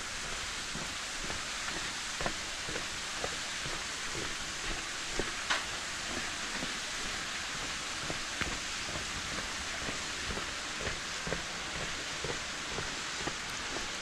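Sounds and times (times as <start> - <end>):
water drips and splashes: 0.0 - 14.0
waterfall hissing: 0.0 - 14.0.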